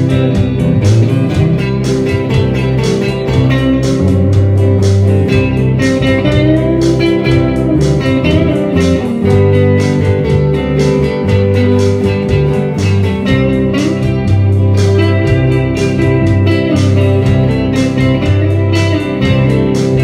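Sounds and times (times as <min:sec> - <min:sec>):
bass guitar: 0:00.0 - 0:20.0
lead guitar: 0:00.0 - 0:20.0
steady drum beat: 0:00.0 - 0:20.0.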